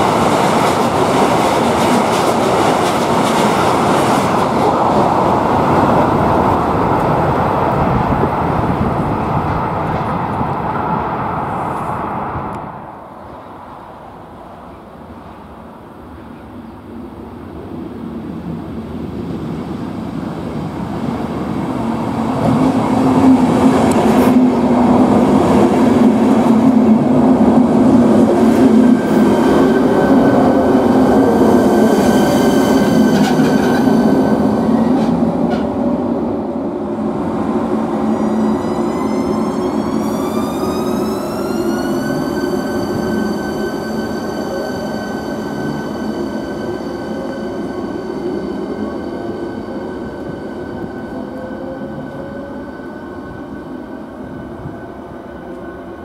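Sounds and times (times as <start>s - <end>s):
electric train whine: 0.0s - 56.0s
train wheel and rail rumble: 0.0s - 56.0s.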